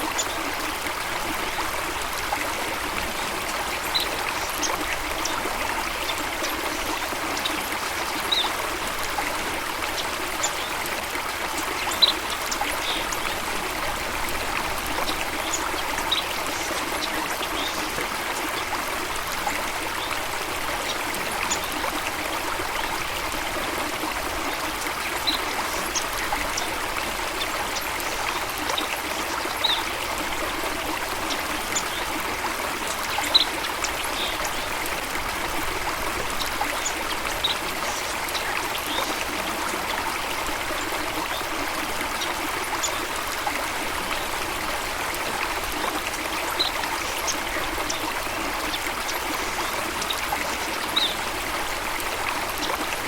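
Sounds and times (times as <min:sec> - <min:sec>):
running water babbling: 0:00.0 - 0:53.0.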